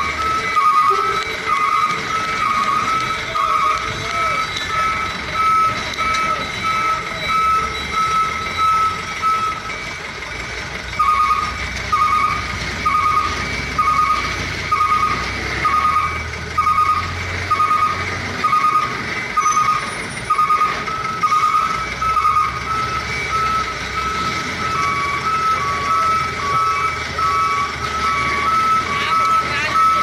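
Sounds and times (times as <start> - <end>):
truck engine running: 0.0 - 30.0
truck reversing alarm beeping: 0.0 - 30.0.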